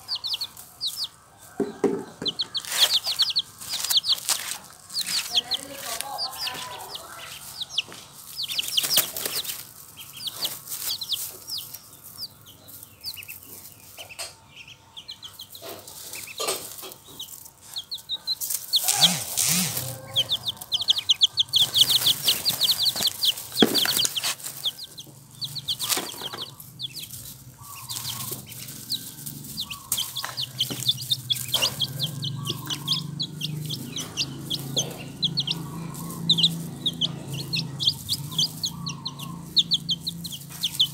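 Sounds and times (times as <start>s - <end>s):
rustling and pecking in straw: 0.0s - 14.2s, 15.4s - 40.9s
chicks and ducklings peeping: 0.0s - 40.9s.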